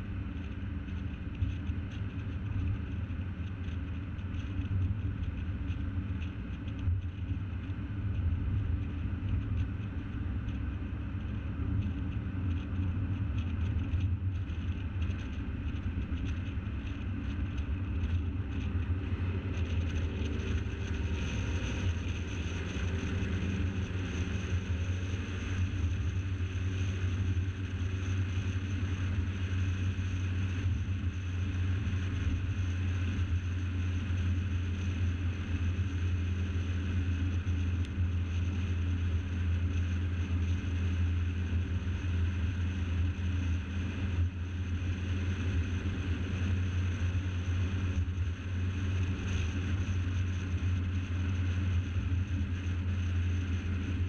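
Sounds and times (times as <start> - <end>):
car driving at road speed: 0.0 - 54.0.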